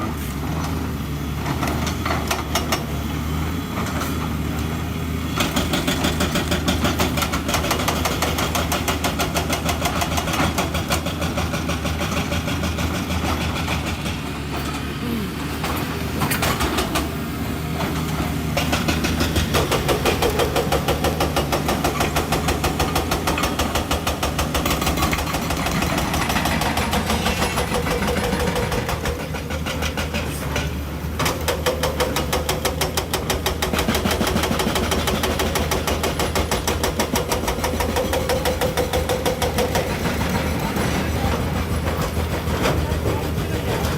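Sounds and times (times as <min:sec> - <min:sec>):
excavator diesel engine pulsing: 0:00.0 - 0:43.9.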